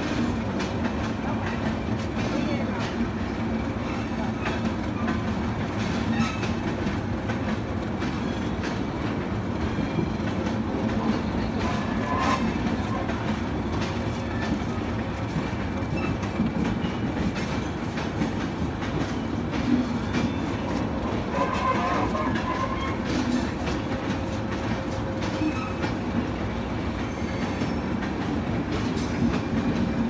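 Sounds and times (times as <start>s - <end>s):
clickety-clack over rail joints: 0.0s - 30.0s
train wheels rumbling on rails: 0.0s - 30.0s.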